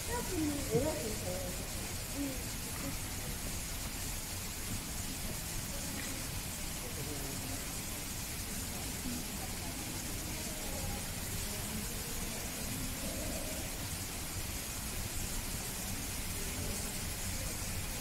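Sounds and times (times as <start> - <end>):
distant voices murmuring: 0.0 - 18.0
steady background hiss: 0.0 - 18.0.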